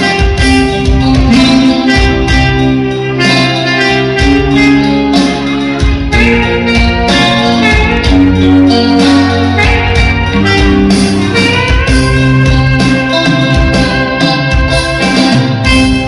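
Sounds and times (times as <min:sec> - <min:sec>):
electric bass guitar: 0:00.0 - 0:16.0
electric guitar: 0:00.0 - 0:16.0
electronic keyboard: 0:00.0 - 0:16.0.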